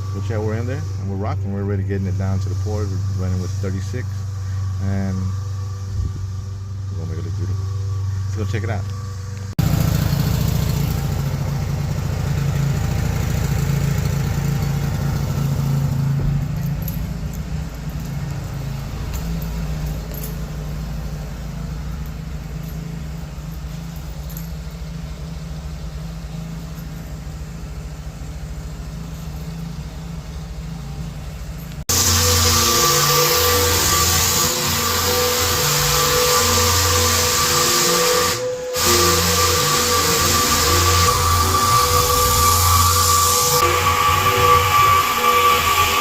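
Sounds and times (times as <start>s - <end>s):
generator engine running: 0.0s - 46.0s.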